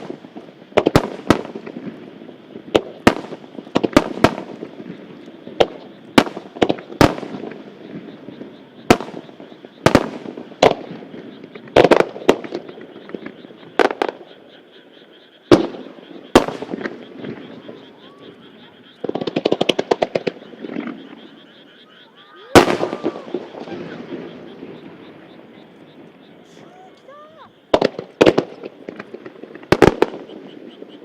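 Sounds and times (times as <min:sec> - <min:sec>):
fireworks bursting with echo: 0:00.0 - 0:14.7, 0:15.5 - 0:21.4, 0:22.2 - 0:31.0.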